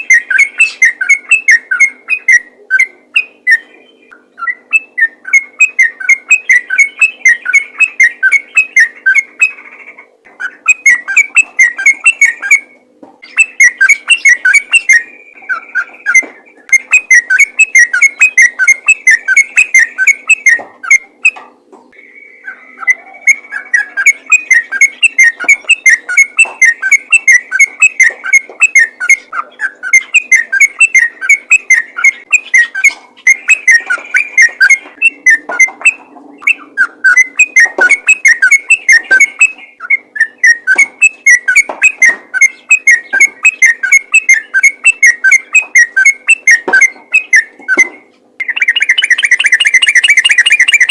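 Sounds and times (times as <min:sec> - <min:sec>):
bulbul singing whistled notes: 0:00.0 - 0:09.7, 0:10.4 - 0:50.9.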